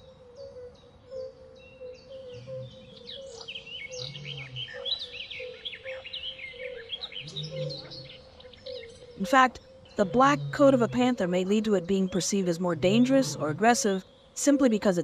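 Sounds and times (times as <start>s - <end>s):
birds chirping and calling: 0.2s - 15.0s.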